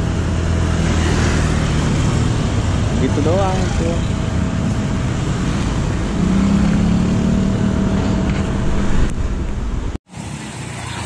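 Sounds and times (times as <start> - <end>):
car engine humming: 0.0 - 10.9
cars driving past: 0.0 - 11.0.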